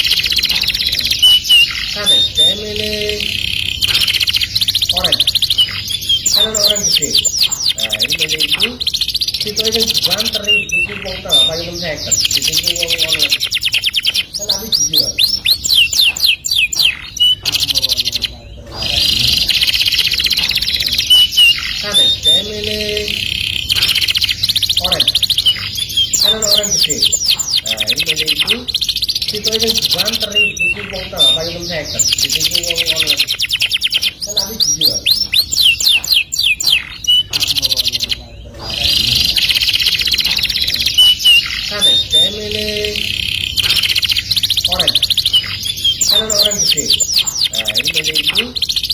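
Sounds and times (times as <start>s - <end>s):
canary singing: 0.0s - 48.9s.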